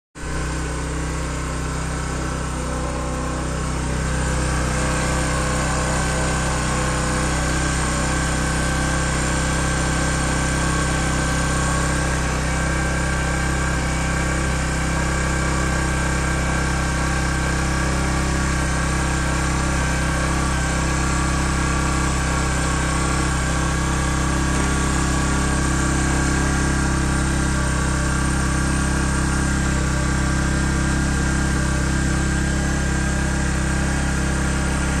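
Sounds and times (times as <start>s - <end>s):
motorcycle engine idling: 0.2s - 35.0s.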